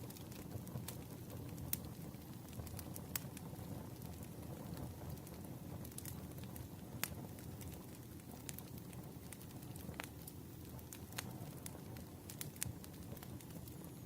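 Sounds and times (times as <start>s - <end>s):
low rush of campfire: 0.0s - 14.0s
wood popping in fire: 0.0s - 14.0s.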